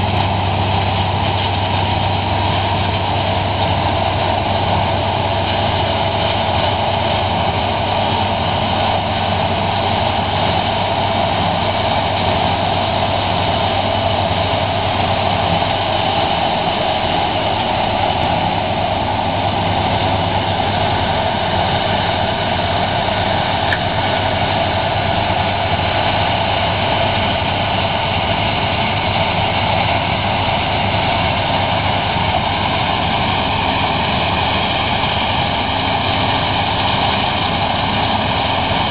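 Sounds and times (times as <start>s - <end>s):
low hum: 0.0s - 38.7s
combine harvester running: 0.0s - 38.9s.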